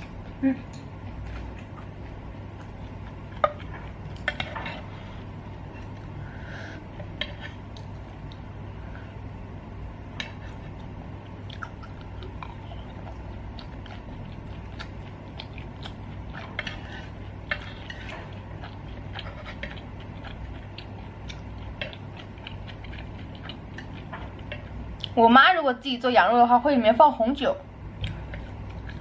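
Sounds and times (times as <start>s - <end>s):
person chewing: 0.0s - 9.2s, 10.0s - 25.2s, 27.9s - 29.0s
steady low hum: 0.0s - 29.0s.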